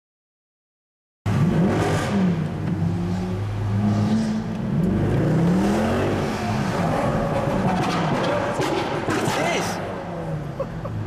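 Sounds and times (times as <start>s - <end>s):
car engine revving: 1.3s - 10.6s.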